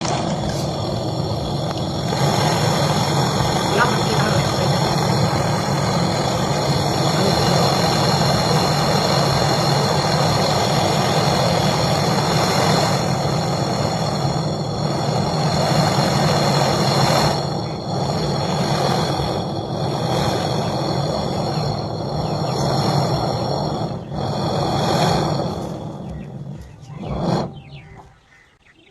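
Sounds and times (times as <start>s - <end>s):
brazing torch flame hissing: 0.0s - 28.0s.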